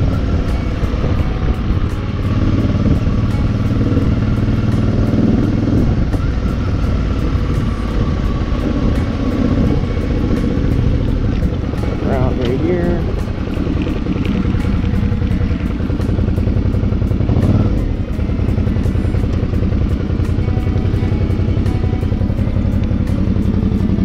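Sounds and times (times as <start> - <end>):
motorcycle engine running: 0.0 - 24.0
road rumble: 0.0 - 24.0
wind: 0.0 - 24.0.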